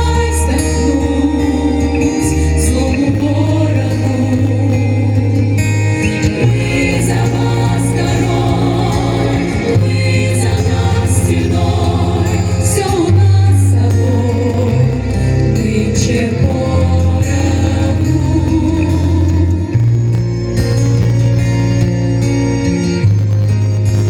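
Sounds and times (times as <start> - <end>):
women singing in harmony: 0.0 - 19.9
backing track bass notes: 0.0 - 24.0.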